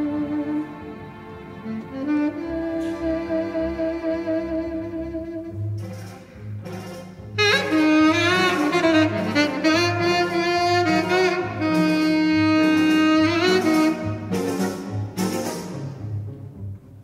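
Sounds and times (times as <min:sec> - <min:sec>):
tenor saxophone melody: 0:00.0 - 0:01.0, 0:01.6 - 0:15.2
string orchestra: 0:00.0 - 0:17.0.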